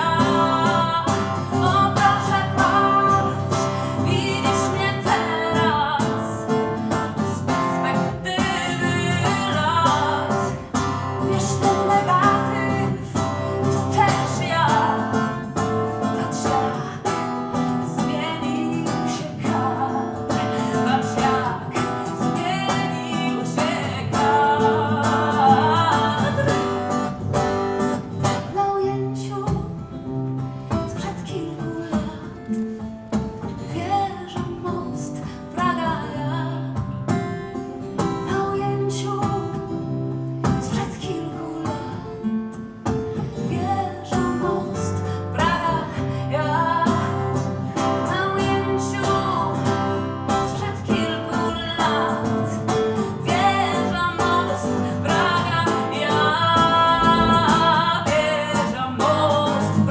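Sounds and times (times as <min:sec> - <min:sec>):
strummed acoustic guitar: 0:00.0 - 0:59.9
woman singing: 0:00.0 - 0:59.9.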